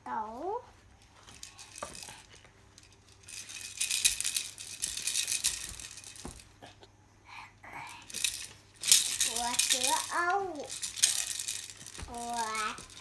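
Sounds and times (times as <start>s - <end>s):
toy rattle shaken: 1.1s - 6.5s, 8.0s - 13.0s.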